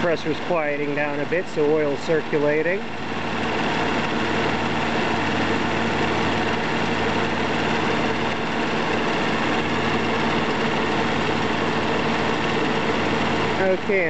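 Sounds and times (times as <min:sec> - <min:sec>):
air conditioning compressor running: 0:00.0 - 0:14.0
car engine idling: 0:00.0 - 0:14.0.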